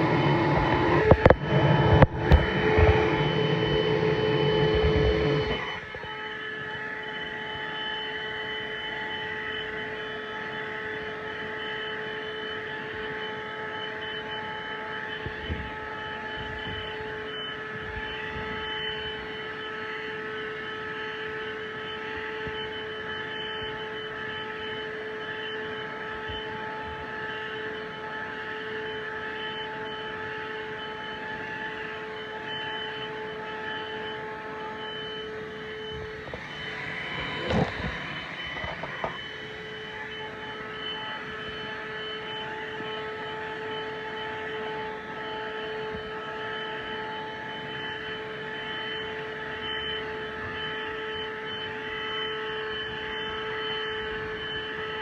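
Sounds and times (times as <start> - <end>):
handheld vacuum whining: 0.0 - 55.0.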